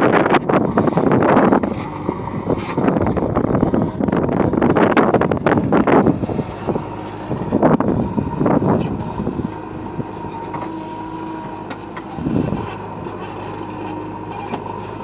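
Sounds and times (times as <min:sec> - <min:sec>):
heavy diesel machine engine running: 0:00.0 - 0:15.0.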